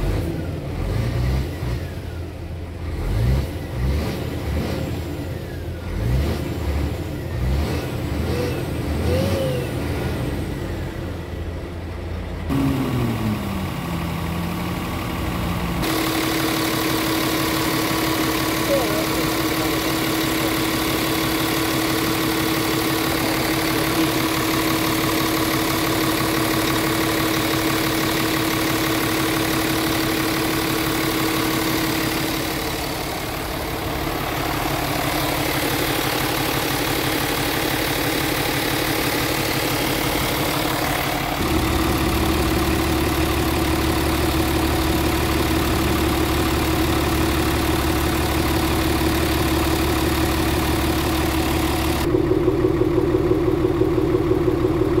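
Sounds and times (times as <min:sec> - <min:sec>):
diesel truck engine idling: 0:05.1 - 0:55.0.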